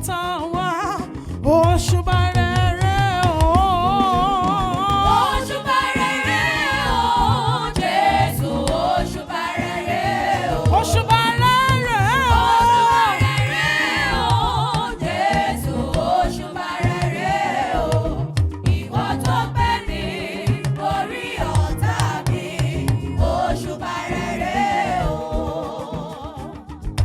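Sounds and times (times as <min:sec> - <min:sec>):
drums and percussion: 0:00.0 - 0:27.0
choir singing gospel: 0:03.6 - 0:27.0.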